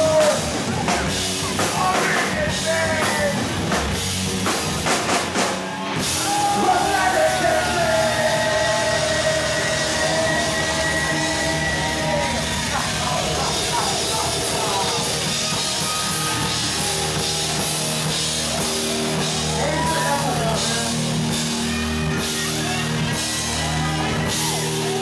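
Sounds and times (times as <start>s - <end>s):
drum kit: 0.0s - 25.0s
electric guitars: 0.0s - 25.0s.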